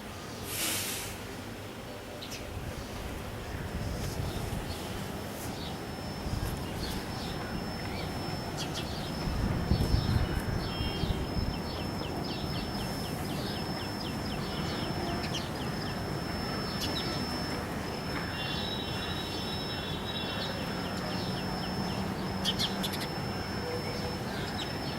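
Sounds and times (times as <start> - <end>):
sparrows chirping: 2.2 - 24.9
high thin whine: 3.8 - 24.9.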